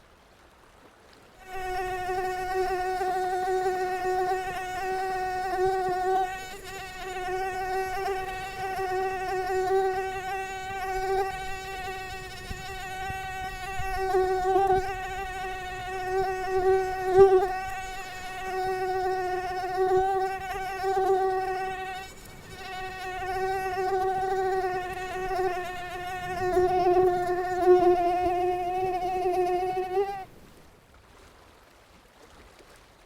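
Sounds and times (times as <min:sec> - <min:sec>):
mosquito buzzing: 0:01.4 - 0:30.4.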